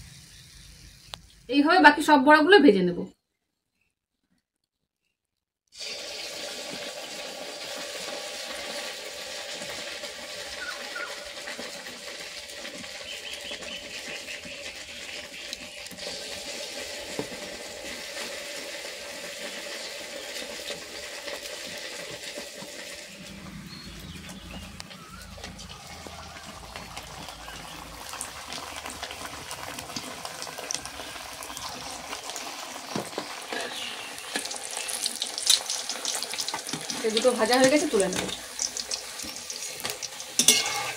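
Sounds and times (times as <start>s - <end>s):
food deep-frying in hot oil: 0.0s - 1.6s, 5.7s - 40.9s.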